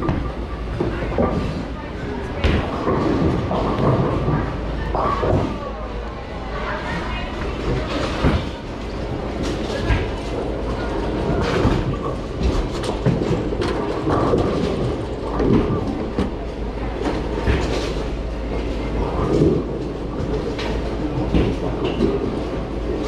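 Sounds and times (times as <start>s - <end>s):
bowling balls rolling: 0.0s - 23.0s.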